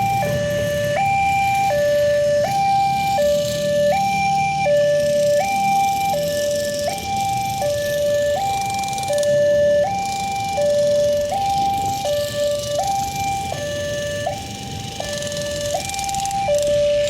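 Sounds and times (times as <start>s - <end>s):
two-tone crossing warning alarm: 0.0s - 17.0s.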